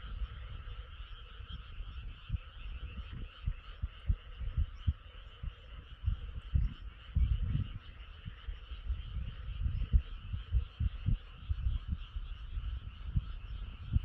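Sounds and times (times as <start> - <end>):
frogs chorus trilling: 0.0 - 14.0.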